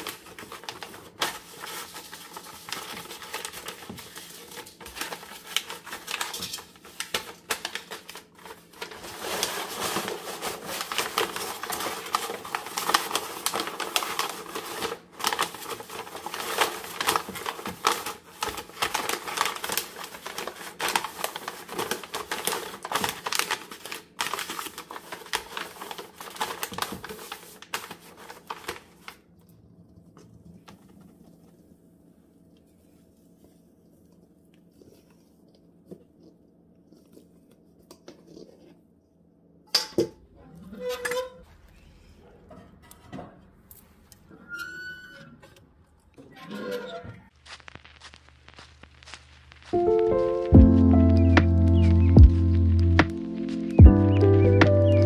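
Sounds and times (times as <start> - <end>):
baking paper crinkling: 0.0 - 38.9, 47.3 - 53.9.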